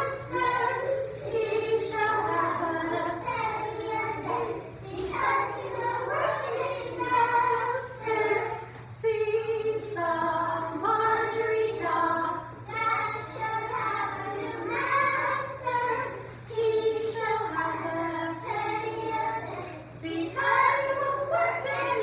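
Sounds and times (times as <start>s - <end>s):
children singing: 0.0s - 8.6s, 9.4s - 22.0s.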